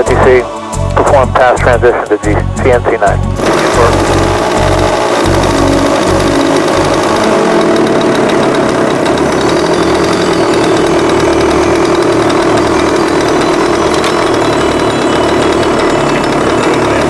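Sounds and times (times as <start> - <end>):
model aircraft engine running: 0.0 - 17.0.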